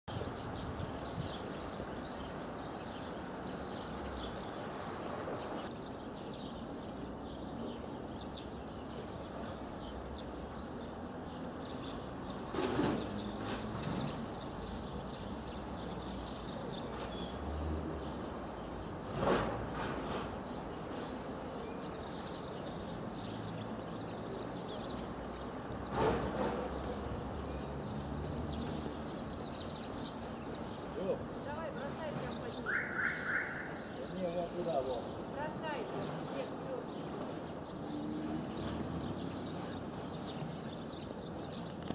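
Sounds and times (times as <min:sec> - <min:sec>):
birds calling high thin trills: 0:00.1 - 0:41.9.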